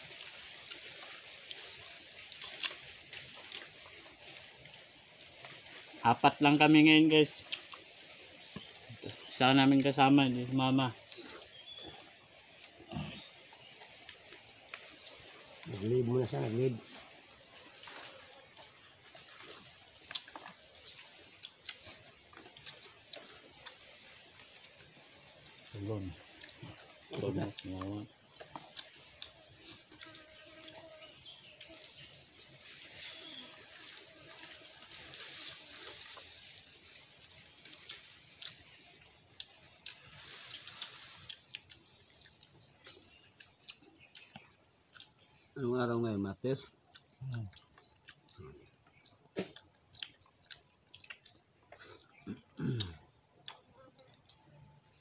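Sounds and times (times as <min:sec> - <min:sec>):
people eating with hands: 0:00.0 - 0:55.0
soft steady hiss: 0:00.0 - 0:55.0.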